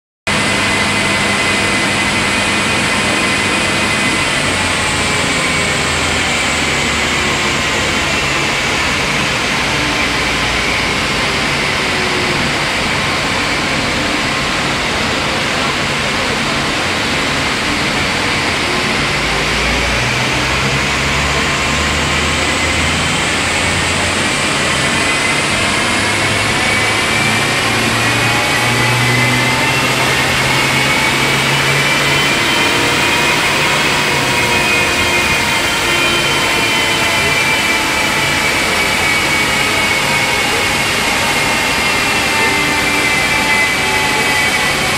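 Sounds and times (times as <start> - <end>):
car engine on dynamometer: 0.3 - 44.9
engine whine: 0.3 - 44.9.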